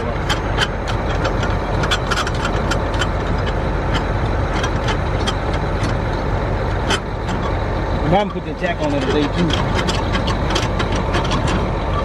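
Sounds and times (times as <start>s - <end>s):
metallic clicks and rattles: 0.0s - 7.6s, 8.2s - 12.0s
tractor engine running: 0.0s - 12.0s.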